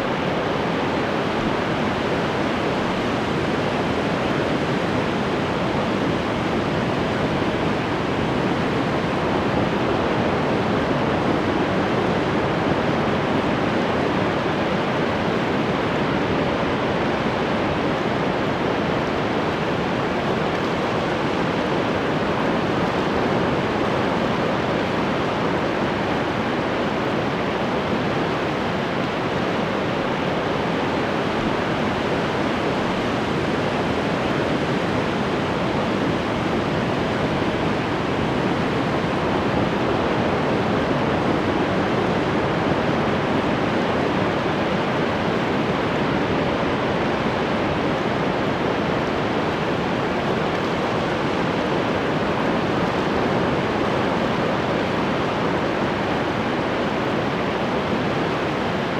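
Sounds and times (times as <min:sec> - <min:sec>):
ocean surf: 0:00.0 - 0:58.9.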